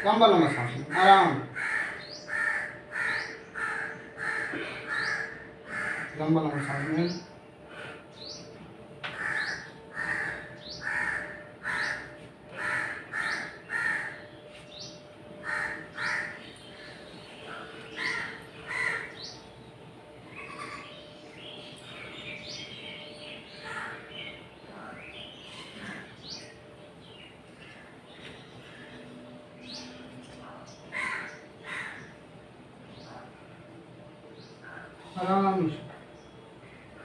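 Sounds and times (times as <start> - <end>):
bird calling: 0.0 - 19.6, 20.2 - 33.6
faint steady hum: 0.0 - 37.0.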